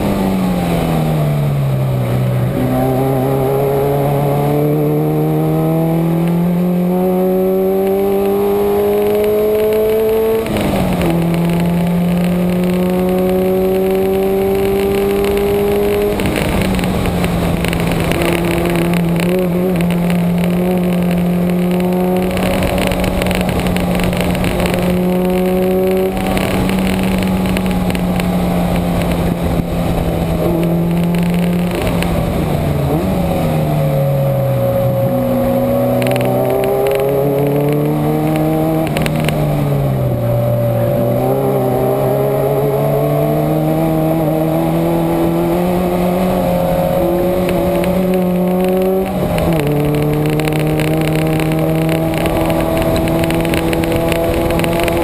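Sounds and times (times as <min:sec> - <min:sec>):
race car engine at full throttle: 0:00.0 - 0:55.0
tyre noise: 0:00.0 - 0:55.0
wind noise: 0:00.0 - 0:55.0.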